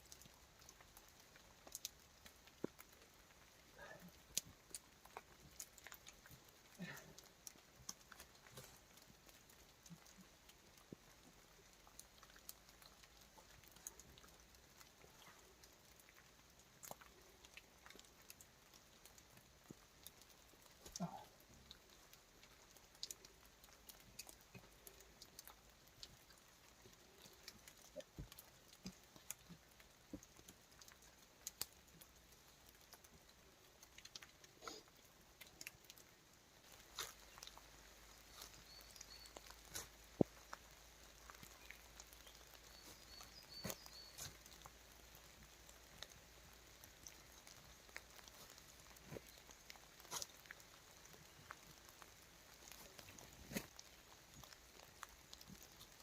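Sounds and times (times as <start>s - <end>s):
raindrops pattering in forest: 0.0s - 56.0s.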